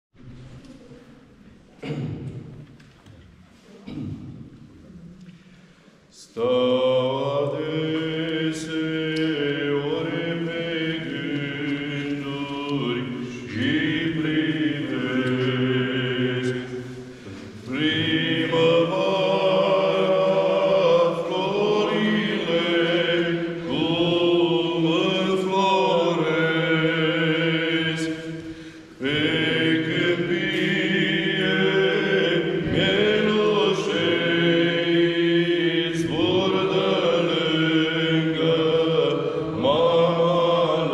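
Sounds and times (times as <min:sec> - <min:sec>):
men singing a slow chant: 0:06.4 - 0:16.8, 0:17.7 - 0:40.9.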